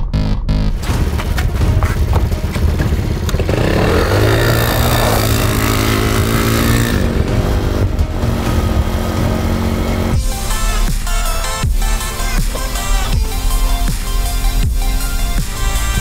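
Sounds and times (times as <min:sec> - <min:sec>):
quad bike engine revving: 0:00.8 - 0:16.0
tyres on gravel: 0:00.8 - 0:16.0.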